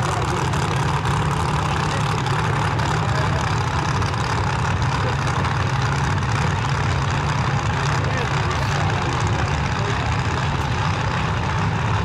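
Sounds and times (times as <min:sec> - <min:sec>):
race car engines idling: 0:00.0 - 0:12.0.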